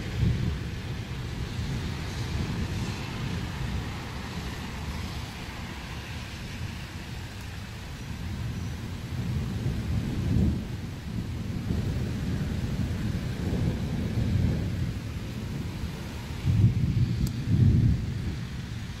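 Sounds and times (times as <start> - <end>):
heavy rain: 0.0 - 19.0
thunder rumbling: 0.0 - 19.0.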